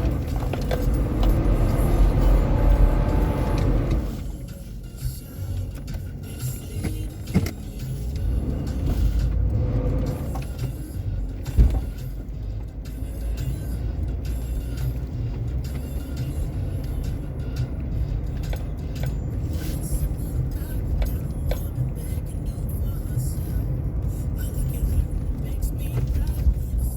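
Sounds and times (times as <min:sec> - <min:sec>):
car driving low rumble: 0:00.0 - 0:26.9.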